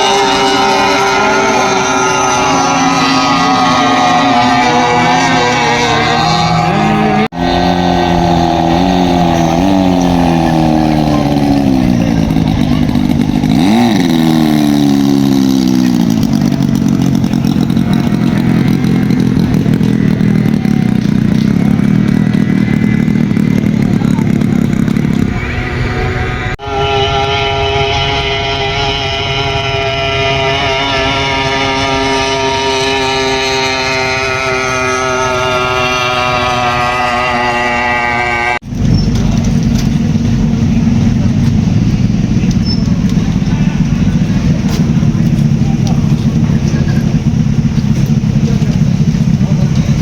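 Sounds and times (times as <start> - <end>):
powerboat engine running: 0.0 - 50.0.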